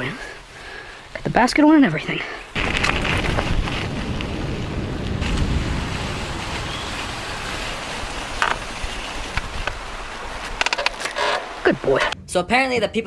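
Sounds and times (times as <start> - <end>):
wind and rolling noise: 1.1 - 13.0.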